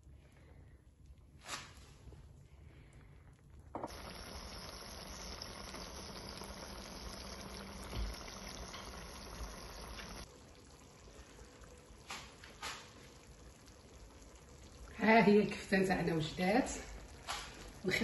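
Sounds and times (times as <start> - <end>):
sauce bubbling in clay pot: 3.0 - 18.0.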